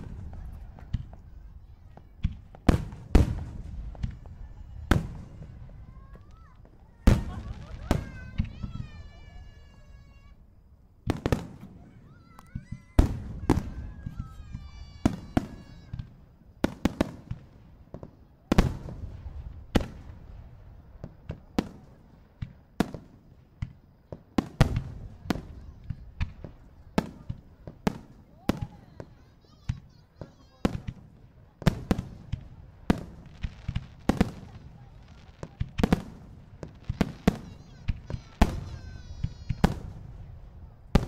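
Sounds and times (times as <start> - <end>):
firework shells booming: 0.0 - 41.0.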